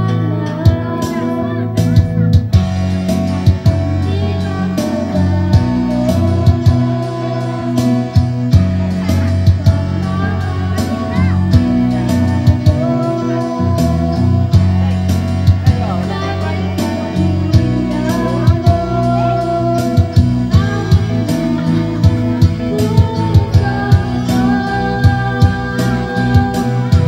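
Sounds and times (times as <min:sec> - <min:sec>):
guitar-led backing music with beat: 0:00.0 - 0:27.0.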